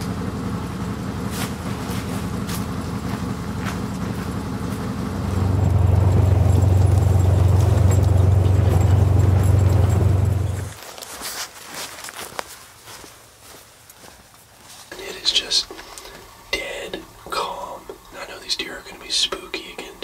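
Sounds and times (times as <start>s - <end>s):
vehicle engine idling and driving: 0.0s - 11.1s, 11.8s - 20.0s.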